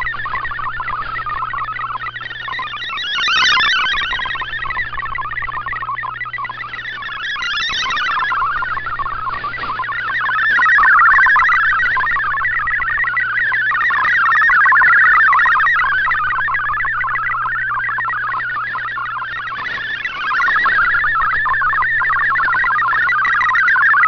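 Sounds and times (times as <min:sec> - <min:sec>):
low hum: 0:00.0 - 0:23.8
warbling digital radio signal: 0:00.0 - 0:24.0.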